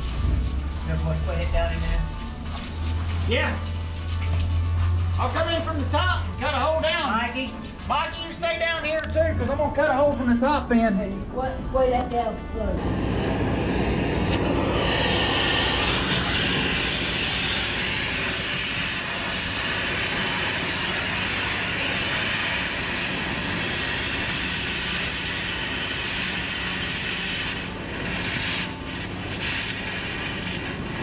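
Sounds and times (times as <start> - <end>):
cutting torch hissing: 0.0 - 9.1, 12.8 - 31.0.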